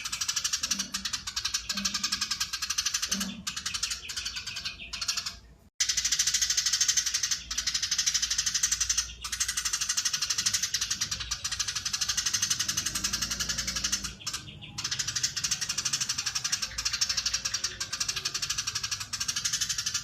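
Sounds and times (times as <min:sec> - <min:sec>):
sparrow chattering call: 0:00.0 - 0:20.0.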